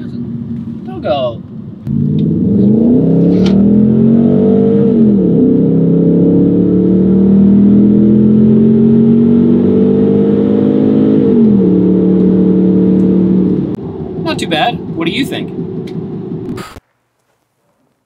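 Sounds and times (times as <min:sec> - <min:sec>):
car engine accelerating hard: 0:00.0 - 0:16.7.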